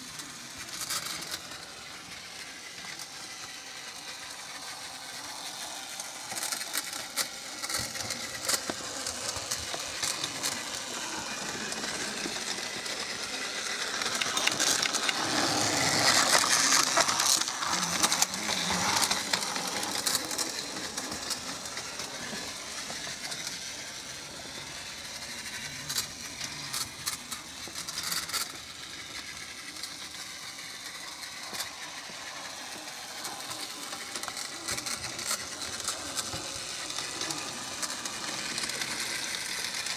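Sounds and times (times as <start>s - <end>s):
toy train motors whirring: 0.0s - 39.9s.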